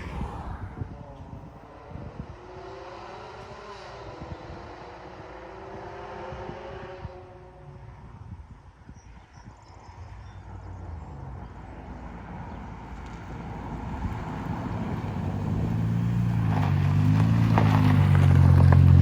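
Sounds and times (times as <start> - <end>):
car exhaust low drone: 0.0 - 19.0.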